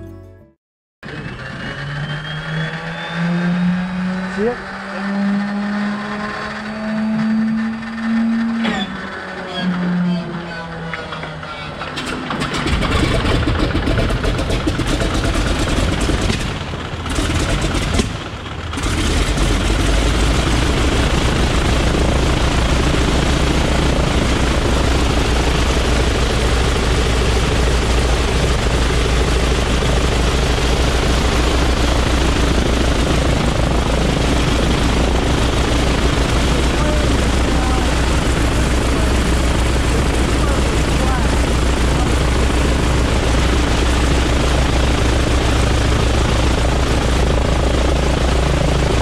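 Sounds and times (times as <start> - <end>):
radial aircraft engine starting: 1.0 - 49.0.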